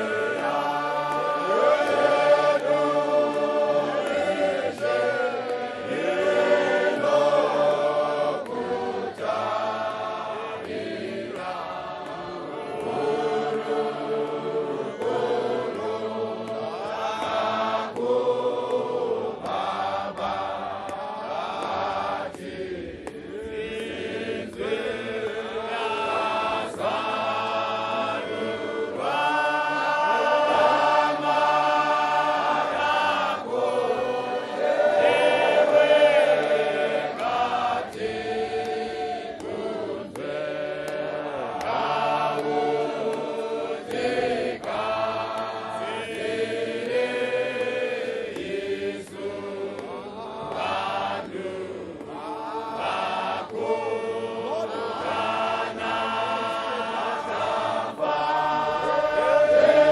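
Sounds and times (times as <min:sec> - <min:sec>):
men's choir singing a hymn: 0:00.0 - 0:59.9.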